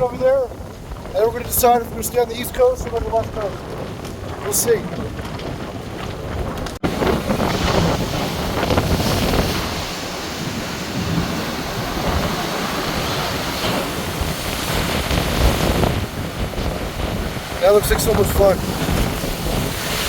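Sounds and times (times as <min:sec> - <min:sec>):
storm surf breaking: 0:00.0 - 0:20.0
wind buffeting microphone: 0:00.0 - 0:20.0.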